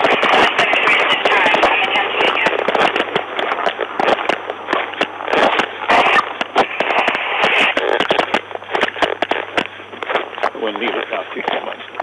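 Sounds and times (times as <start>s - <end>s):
crackling static: 0.0s - 12.0s
sharp clicks: 0.0s - 12.0s
steady hiss: 0.0s - 12.0s.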